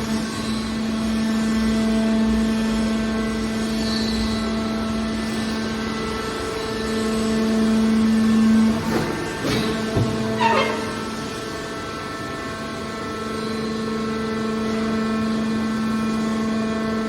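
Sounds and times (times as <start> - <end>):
baler machine droning: 0.0 - 17.0.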